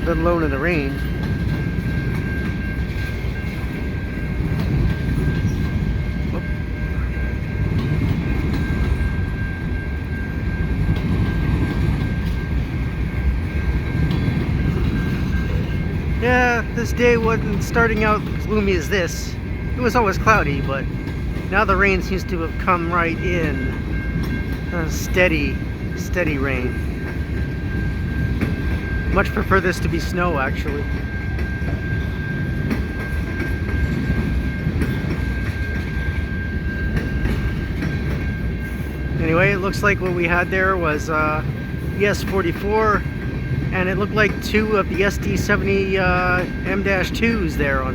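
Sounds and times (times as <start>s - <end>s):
wheels clicking over rail joints: 0.0s - 47.7s
freight train rumbling past: 0.0s - 47.9s.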